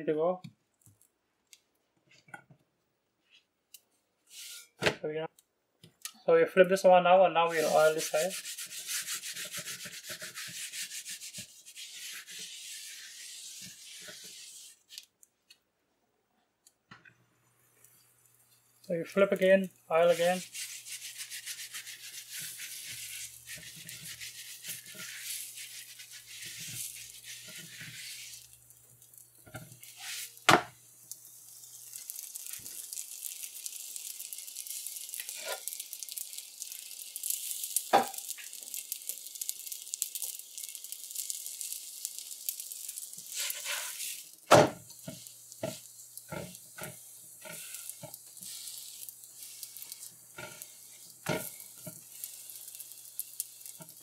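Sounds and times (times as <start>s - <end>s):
flatbread sizzling on a pan: 4.2s - 4.8s, 7.4s - 15.2s, 17.3s - 54.0s.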